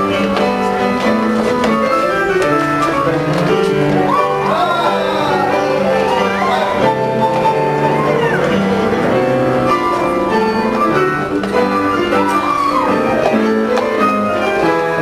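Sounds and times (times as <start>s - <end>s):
orchestral score with piano: 0.0s - 15.0s.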